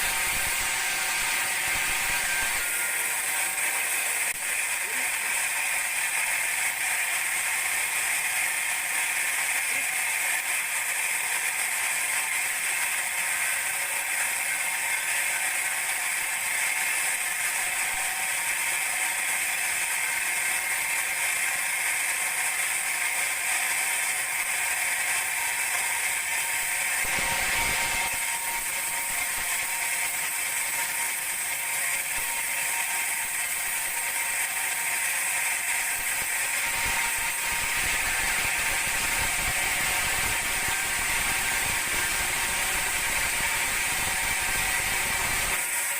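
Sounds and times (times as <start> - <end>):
band sawmill sawing log: 0.0 - 45.9.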